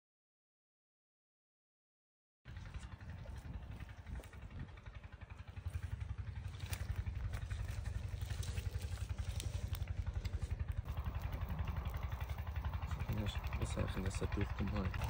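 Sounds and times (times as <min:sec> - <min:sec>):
engine chugging: 0:02.5 - 0:15.0.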